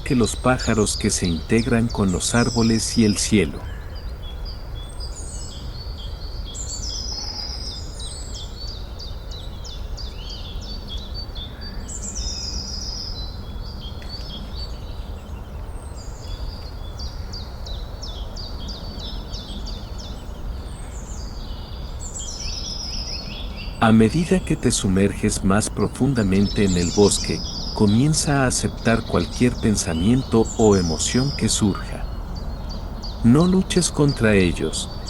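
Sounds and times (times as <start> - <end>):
birds singing: 0.0 - 35.0
low background noise: 0.0 - 35.0.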